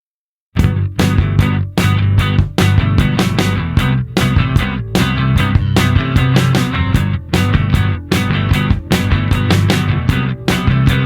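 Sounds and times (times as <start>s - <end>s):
bass guitar: 0.6s - 11.0s
distorted electric guitar: 0.6s - 11.0s
drums: 0.6s - 11.0s
rock music: 0.6s - 11.0s.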